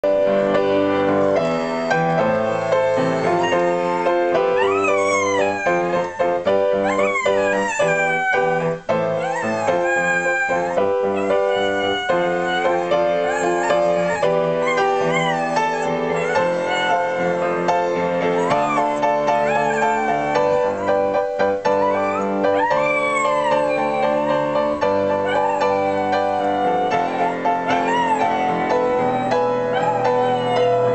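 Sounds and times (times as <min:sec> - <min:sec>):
piano melody: 0:00.0 - 0:30.9
dog howling: 0:01.4 - 0:30.9.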